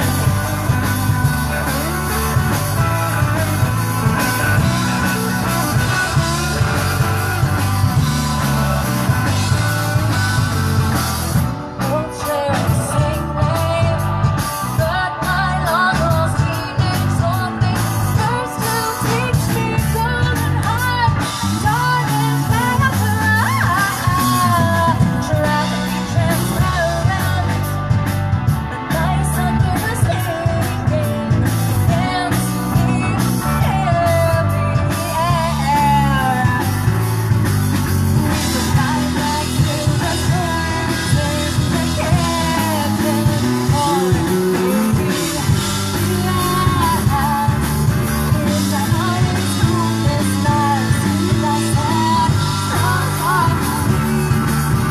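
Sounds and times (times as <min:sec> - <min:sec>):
lead singer singing: 0:00.0 - 0:54.9
live rock band playing: 0:00.0 - 0:54.9.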